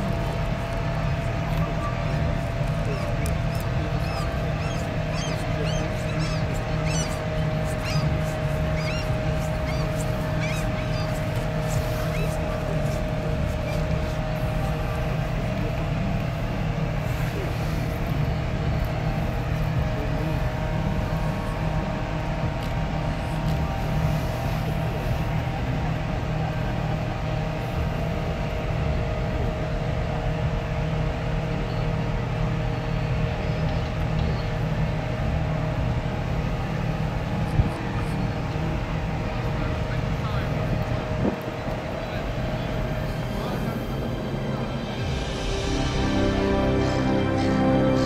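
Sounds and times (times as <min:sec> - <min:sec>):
ship engines rumbling: 0:00.0 - 0:48.0.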